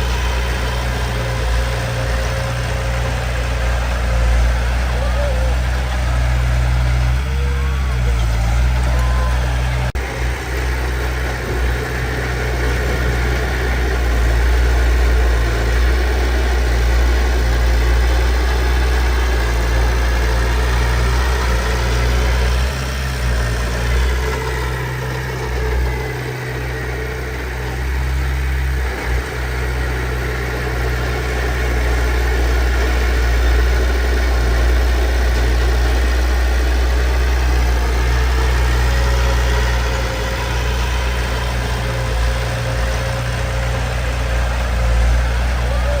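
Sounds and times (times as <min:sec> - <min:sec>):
heavy machinery diesel engine: 0:00.0 - 0:46.0.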